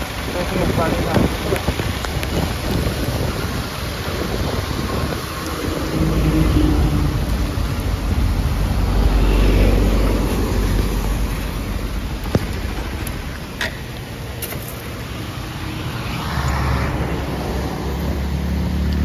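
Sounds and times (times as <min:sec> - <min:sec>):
tyres hissing on wet road: 0:00.0 - 0:19.0
vehicle engine rumble: 0:00.0 - 0:19.0.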